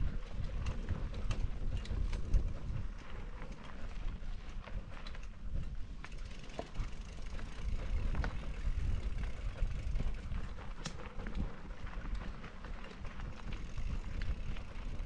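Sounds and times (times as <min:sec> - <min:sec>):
bike tyres on dirt trail: 0:00.0 - 0:15.0
wind rumble on camera: 0:00.0 - 0:15.0.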